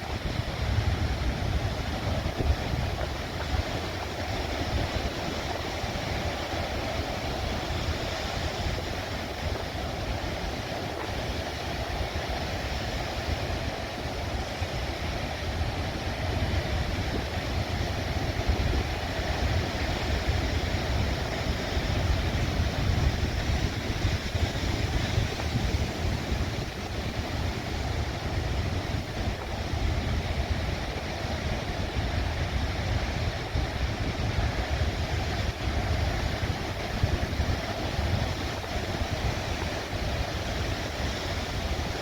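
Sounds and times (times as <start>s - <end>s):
surf crashing on rocks: 0.0s - 42.0s
wind buffeting microphone: 0.0s - 42.0s.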